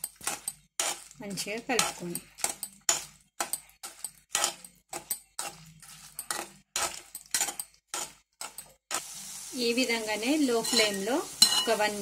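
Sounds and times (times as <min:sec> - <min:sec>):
metal spatula scraping a pan: 0:00.0 - 0:12.0.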